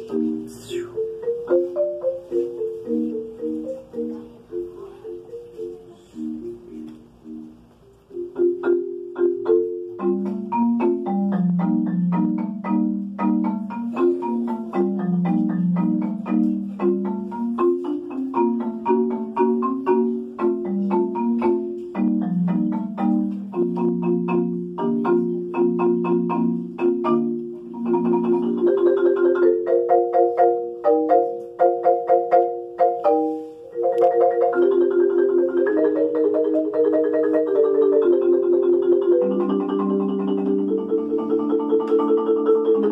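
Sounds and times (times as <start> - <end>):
solo marimba: 0.0 - 42.9.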